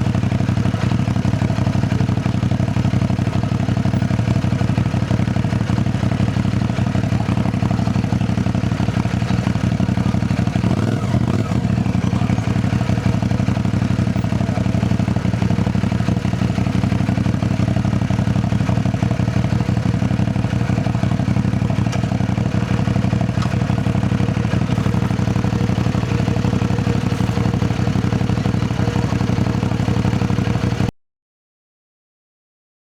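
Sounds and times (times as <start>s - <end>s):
motorcycle engine running steadily: 0.0s - 30.9s.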